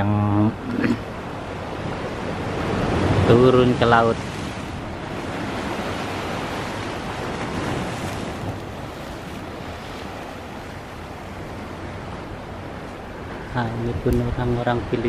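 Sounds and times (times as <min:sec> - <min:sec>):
wind on microphone: 0:00.0 - 0:15.0
waves breaking over rocks: 0:00.5 - 0:15.0.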